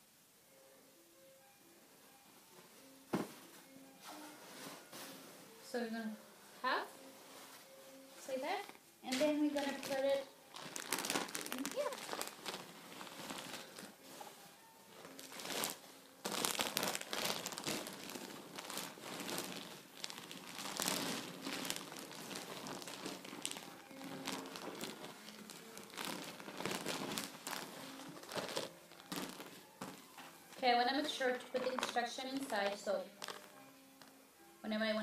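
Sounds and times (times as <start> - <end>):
fabric crinkling and rustling: 2.5 - 5.6, 6.5 - 34.1.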